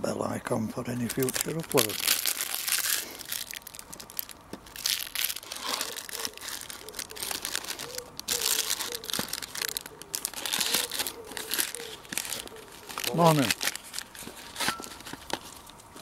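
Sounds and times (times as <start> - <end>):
plastic packaging crinkling: 0.8 - 16.0.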